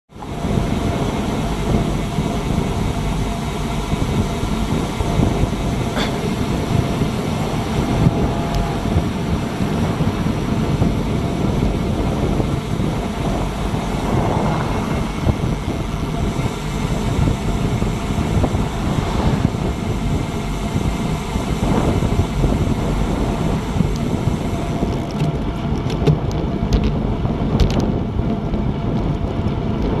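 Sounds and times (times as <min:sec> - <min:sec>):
wind buffeting microphone: 0:00.1 - 0:30.0.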